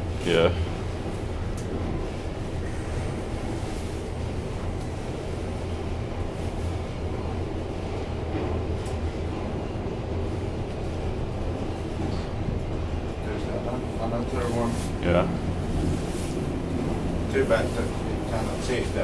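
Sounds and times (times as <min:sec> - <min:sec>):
elevator car low rumble: 0:00.0 - 0:19.0.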